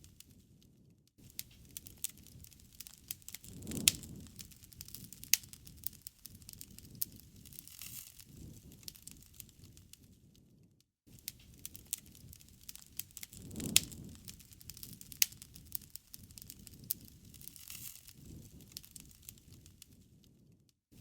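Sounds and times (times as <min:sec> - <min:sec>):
low rumble of flames: 0:00.0 - 0:20.6
wood fire crackling and popping: 0:00.0 - 0:21.0.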